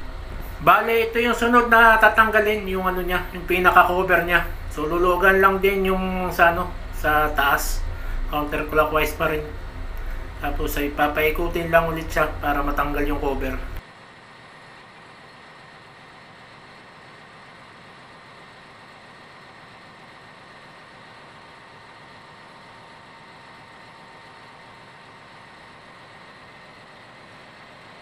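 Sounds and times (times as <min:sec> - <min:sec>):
faint high whine: 0:00.0 - 0:28.0
machinery hum and hiss: 0:00.0 - 0:28.0.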